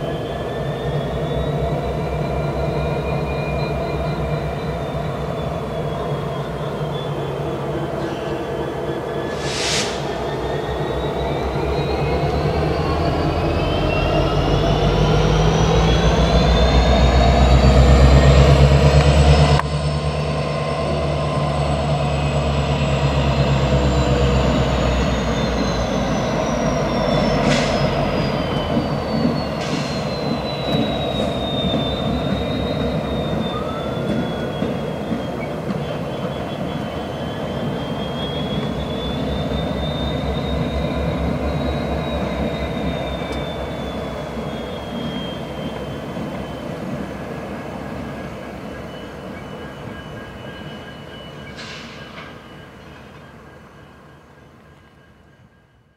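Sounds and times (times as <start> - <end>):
diesel locomotive rumble: 0.0 - 53.3
train wheel squeal: 0.0 - 55.9.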